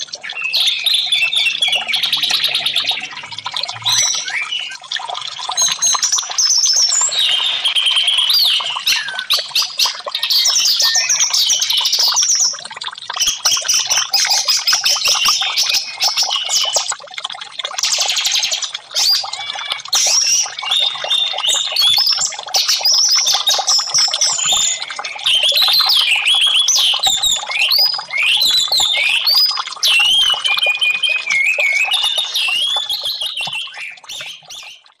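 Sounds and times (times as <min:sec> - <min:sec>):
thrush singing whistled phrases: 0:00.0 - 0:17.0, 0:17.8 - 0:35.0.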